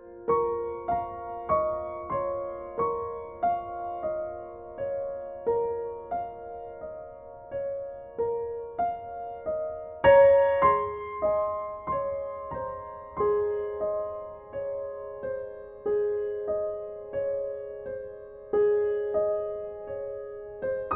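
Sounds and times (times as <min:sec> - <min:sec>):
slow piano music: 0:00.0 - 0:20.9.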